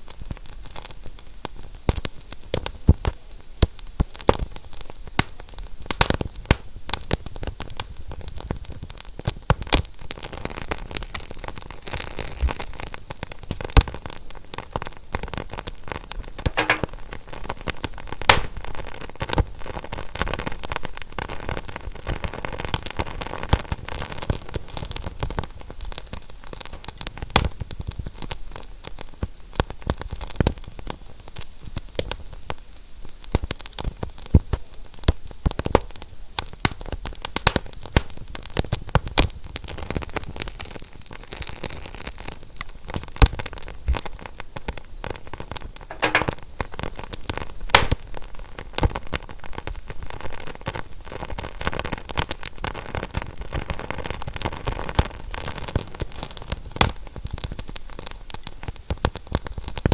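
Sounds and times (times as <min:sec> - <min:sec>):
wood fire crackling: 0:00.0 - 0:32.6, 0:33.4 - 0:59.9.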